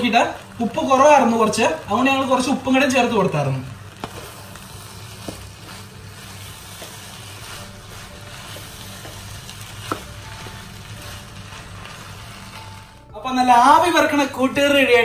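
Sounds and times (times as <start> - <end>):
curry sizzling in a wok: 0.0 - 15.0.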